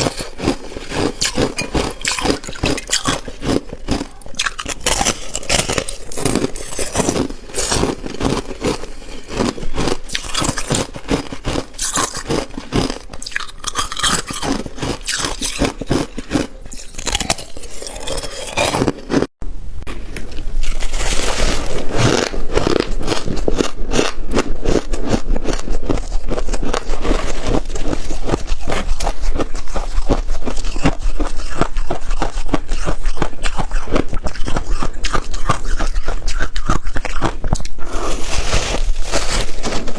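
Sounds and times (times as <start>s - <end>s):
frost being chewed crunching: 0.0s - 19.3s, 20.6s - 39.9s.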